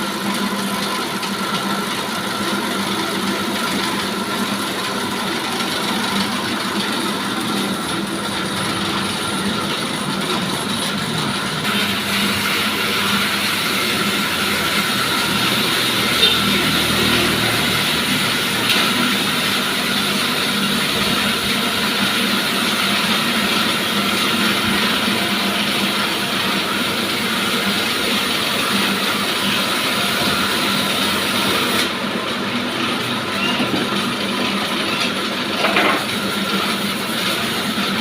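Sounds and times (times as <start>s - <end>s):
sawmill mechanical drone: 0.0s - 38.0s.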